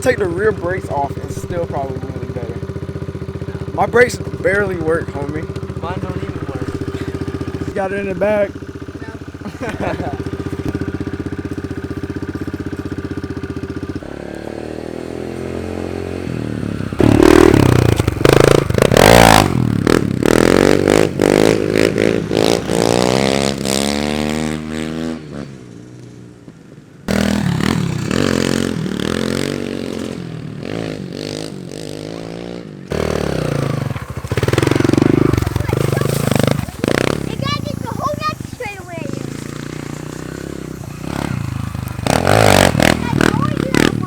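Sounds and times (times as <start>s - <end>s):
small motorcycle engine revving: 0.0s - 26.3s, 27.1s - 44.0s.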